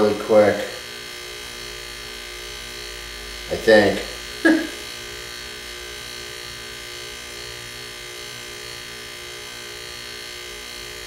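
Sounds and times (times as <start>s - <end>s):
compressor pump humming: 0.0s - 11.0s.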